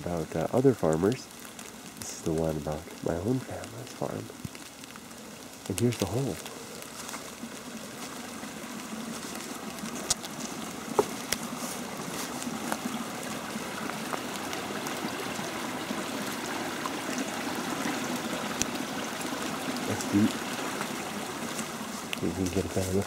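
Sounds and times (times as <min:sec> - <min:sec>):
stream water trickling: 0:00.0 - 0:23.0.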